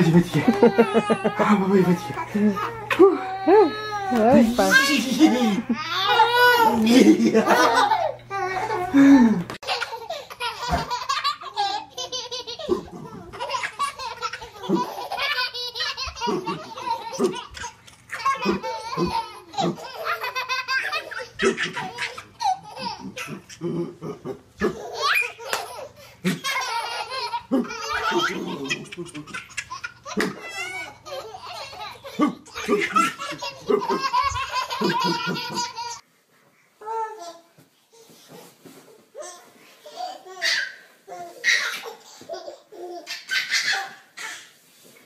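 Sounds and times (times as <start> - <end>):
babies laughing: 0.0 - 36.0, 39.2 - 44.6.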